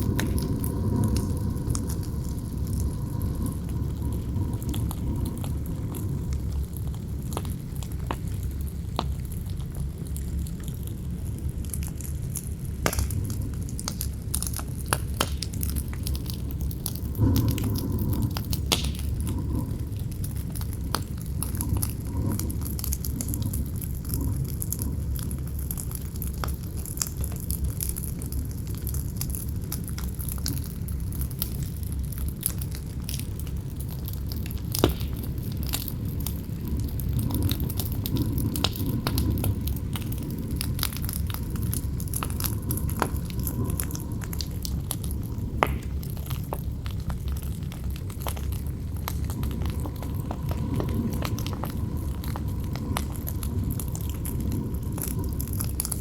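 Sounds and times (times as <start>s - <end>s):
low rumble of wind: 0.0s - 56.0s
wood fire crackling and popping: 0.0s - 56.0s.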